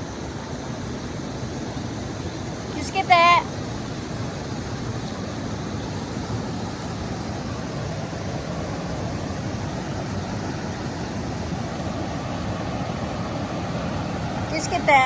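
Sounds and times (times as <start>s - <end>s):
river current rushing: 0.0s - 15.0s.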